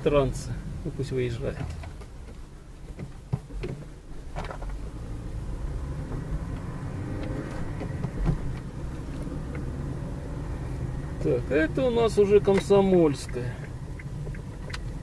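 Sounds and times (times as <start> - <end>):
low rumble of engine and road: 0.0 - 15.0.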